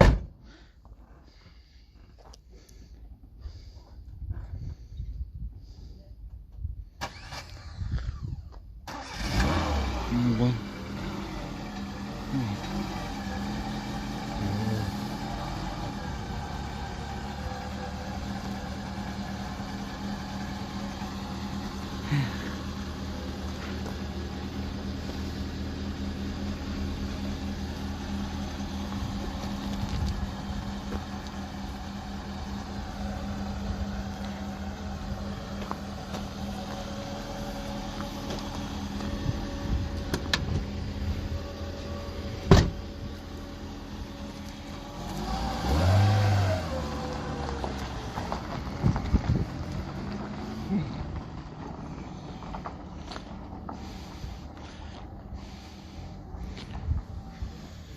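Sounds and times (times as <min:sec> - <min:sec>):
car engine running: 0:07.0 - 0:57.9.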